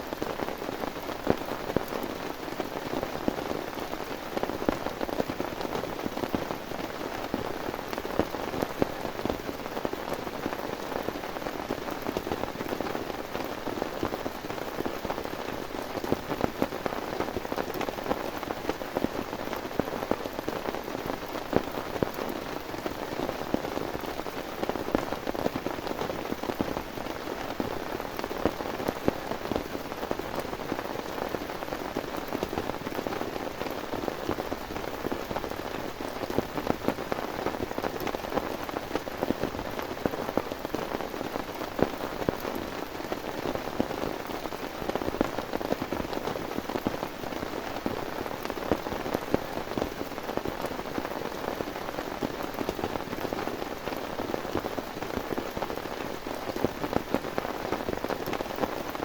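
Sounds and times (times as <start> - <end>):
heavy rain falling: 0.0 - 59.0
raindrops striking close by: 0.0 - 59.0.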